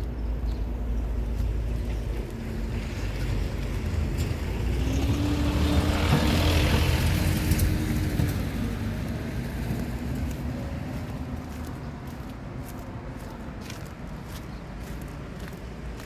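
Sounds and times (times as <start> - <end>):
motor vehicle passing: 2.7 - 16.0.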